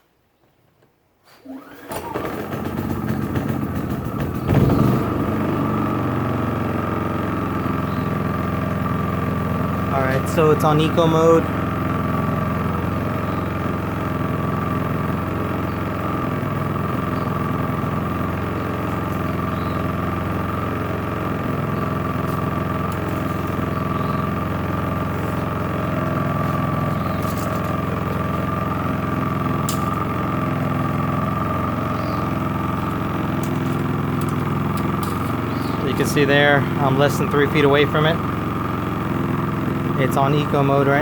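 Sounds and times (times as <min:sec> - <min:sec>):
generator engine running: 0:01.4 - 0:41.0.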